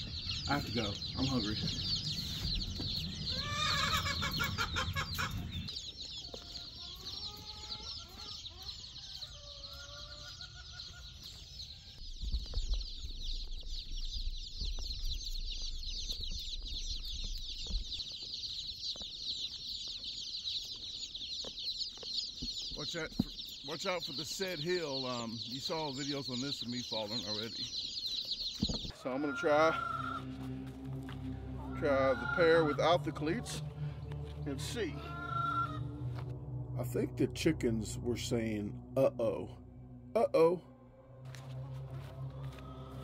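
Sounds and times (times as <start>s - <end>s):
lower calls: 0.0s - 18.8s, 22.4s - 38.1s, 38.7s - 43.0s
baby chicks peeping: 0.0s - 36.1s.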